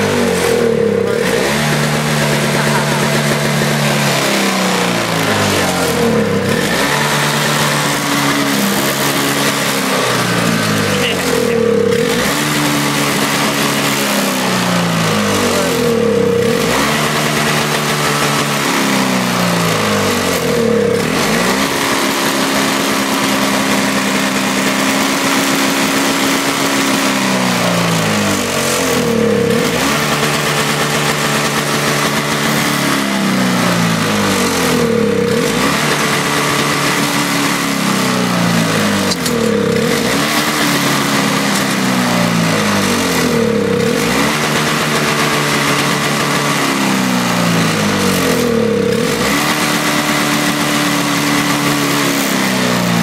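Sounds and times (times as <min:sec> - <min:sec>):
snowblower engine hunting: 0:00.0 - 0:53.0.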